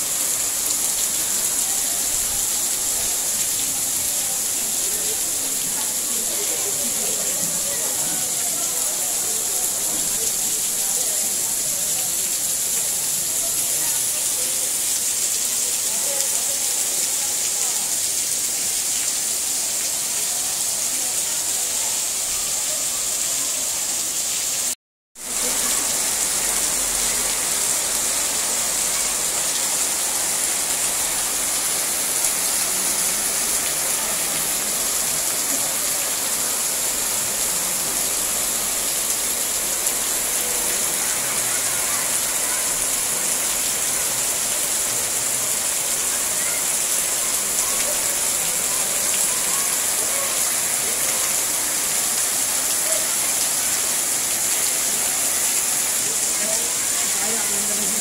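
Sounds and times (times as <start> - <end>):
heavy rain on roofs and paving: 0.0 - 58.0.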